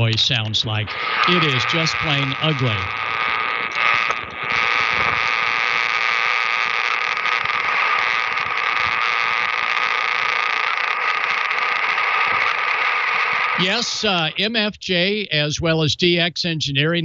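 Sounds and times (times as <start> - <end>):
thin steady tone: 0.0 - 16.7
radio power line noise: 0.0 - 17.0.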